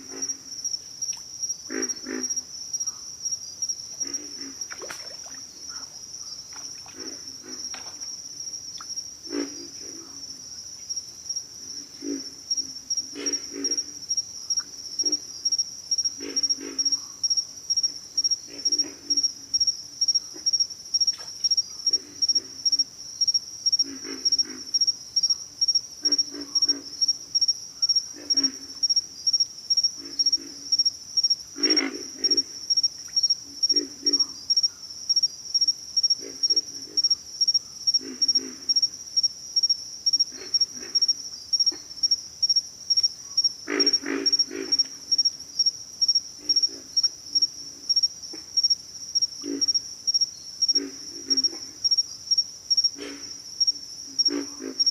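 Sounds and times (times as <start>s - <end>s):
frogs grunting: 0.0s - 0.7s, 1.6s - 3.1s, 3.8s - 10.5s, 11.5s - 54.9s
high-pitched insect trill: 0.1s - 54.9s.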